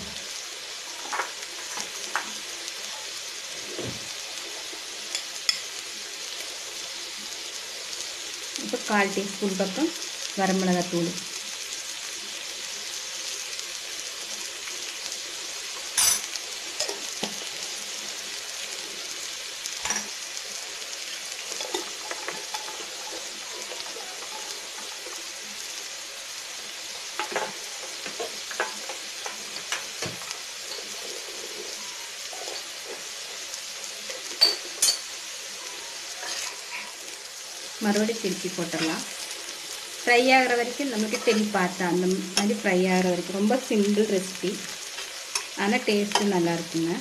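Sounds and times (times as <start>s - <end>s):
food sizzling in oil: 0.0s - 47.0s.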